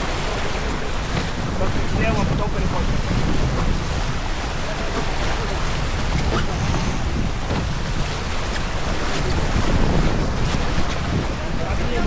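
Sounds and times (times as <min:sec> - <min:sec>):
water rushing along boat hull: 0:00.0 - 0:12.0
wind buffeting microphone: 0:00.0 - 0:12.0.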